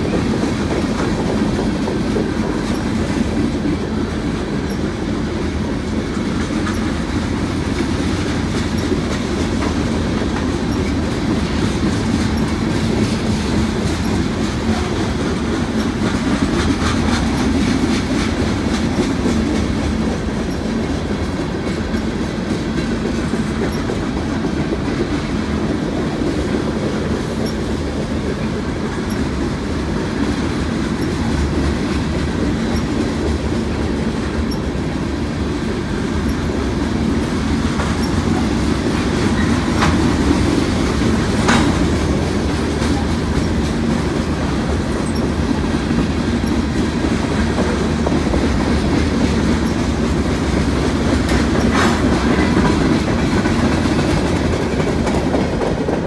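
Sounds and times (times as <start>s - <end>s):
freight train cars rolling: 0.0s - 56.0s
wheels clicking over rail joints: 0.0s - 56.0s.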